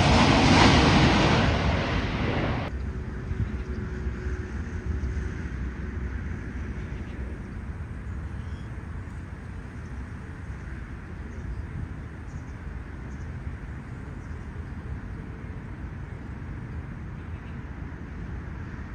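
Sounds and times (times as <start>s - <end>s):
distant airplane rumble: 0.0s - 18.9s
wind buffeting microphone: 0.0s - 18.9s.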